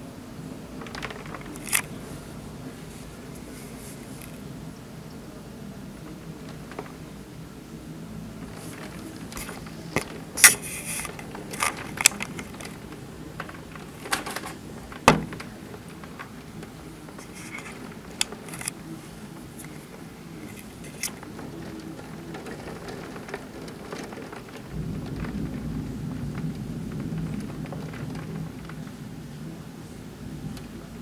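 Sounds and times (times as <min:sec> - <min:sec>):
rainstorm: 0:00.0 - 0:31.0
raindrops tapping: 0:00.6 - 0:05.2, 0:05.8 - 0:31.0
low rumble: 0:05.9 - 0:30.8.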